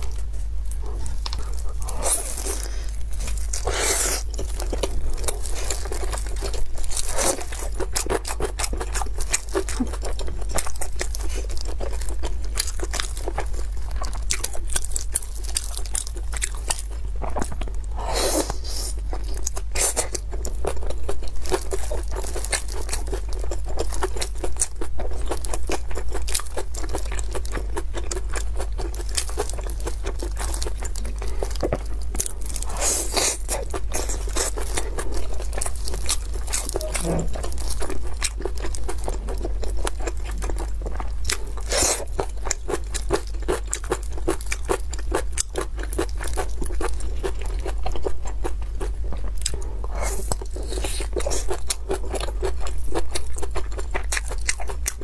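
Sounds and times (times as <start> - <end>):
crunching and wet chewing: 0.0 - 55.0
faint low hum: 0.0 - 55.0.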